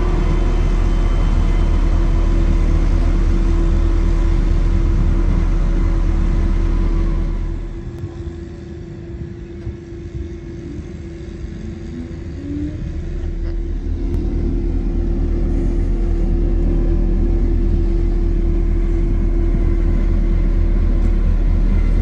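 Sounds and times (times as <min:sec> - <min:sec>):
paving machine engine rumbling: 0:00.0 - 0:22.0.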